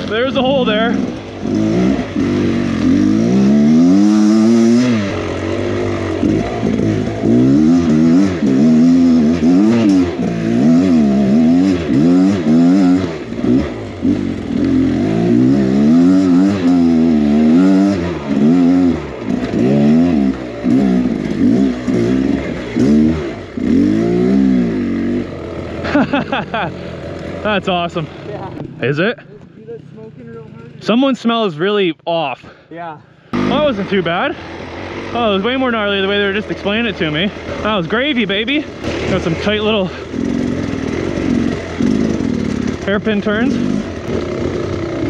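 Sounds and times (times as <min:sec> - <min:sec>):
dirt bike engine revving: 0:00.0 - 0:31.8, 0:33.2 - 0:45.0.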